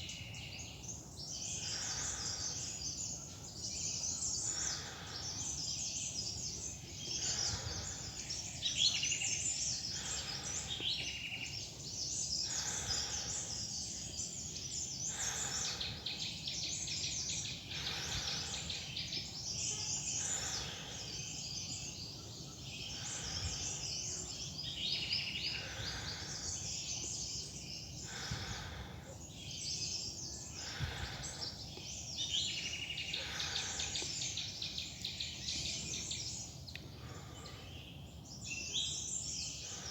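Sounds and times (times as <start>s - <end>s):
forest birds chirping: 0.0s - 39.9s.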